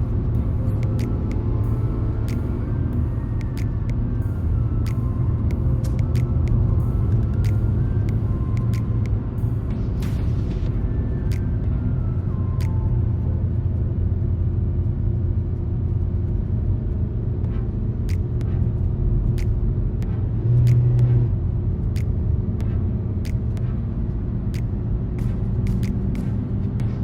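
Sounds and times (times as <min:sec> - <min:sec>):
car road rumble: 0:00.0 - 0:27.0.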